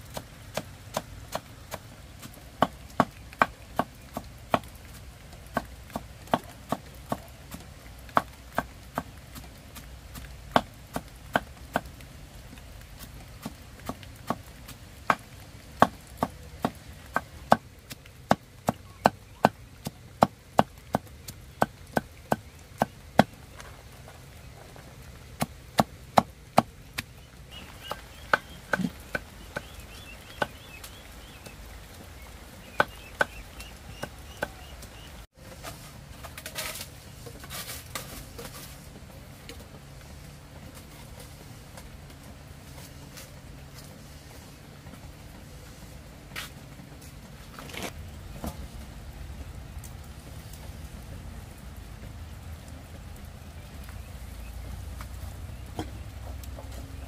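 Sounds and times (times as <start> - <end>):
rustling of wood fire being tended: 0.0 - 57.0.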